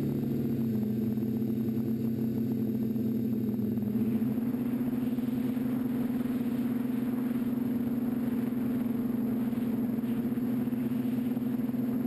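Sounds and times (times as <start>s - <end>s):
drone motors and propellers buzzing: 0.0s - 12.0s.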